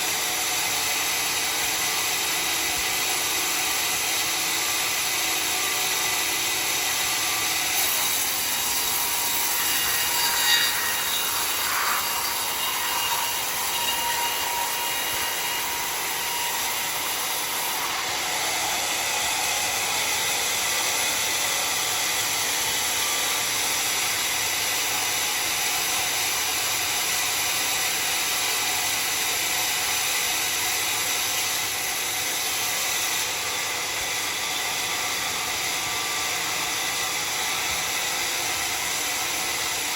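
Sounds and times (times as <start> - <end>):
saw blade cutting log: 0.0 - 39.9.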